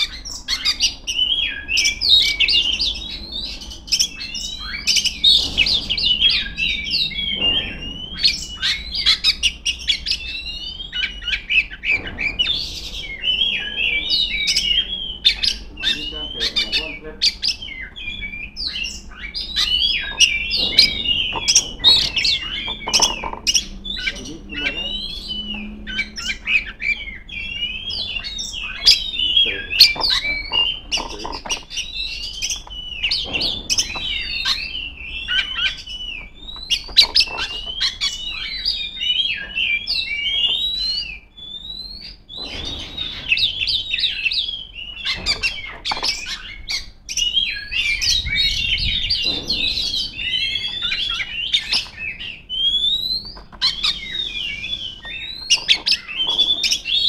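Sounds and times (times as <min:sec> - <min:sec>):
bird singing whistles and chirps: 0:00.0 - 0:57.0.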